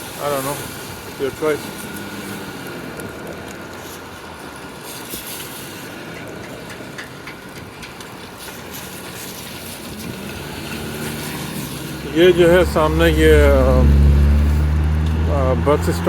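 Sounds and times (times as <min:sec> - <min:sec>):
car engines idling: 0:00.0 - 0:16.0
traffic on wet road: 0:00.0 - 0:16.0.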